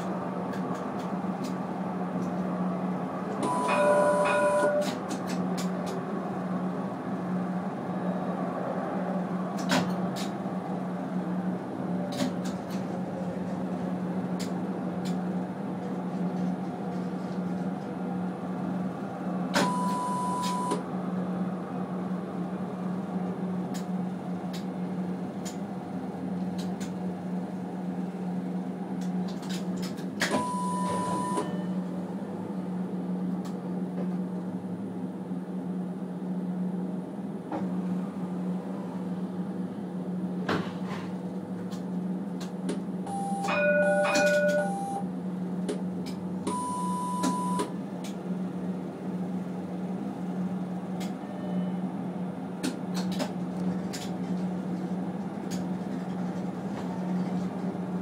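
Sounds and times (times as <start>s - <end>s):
tram electrical hum: 0.0s - 58.0s.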